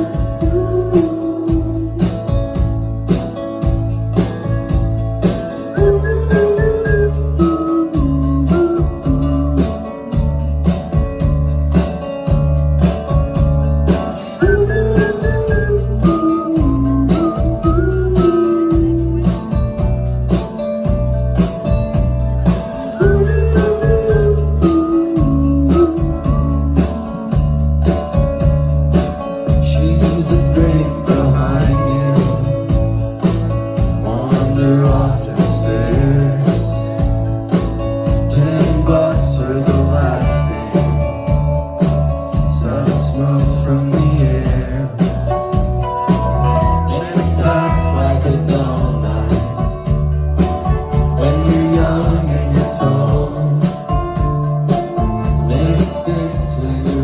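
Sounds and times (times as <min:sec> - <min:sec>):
bass guitar: 0:00.0 - 0:57.0
drum beat: 0:00.0 - 0:57.0
rock band playing: 0:00.0 - 0:57.0.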